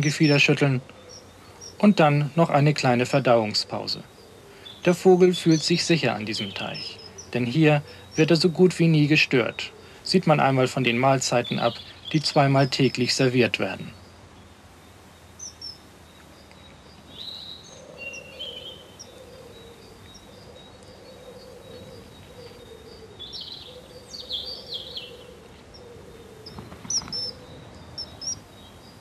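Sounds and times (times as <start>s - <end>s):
bird calls and chirps: 0.0s - 29.0s.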